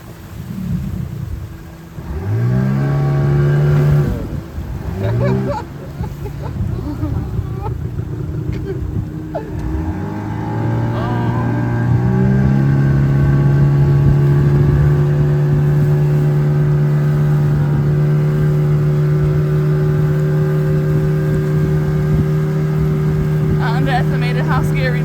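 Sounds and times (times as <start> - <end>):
boat outboard motor running: 0.0 - 25.0.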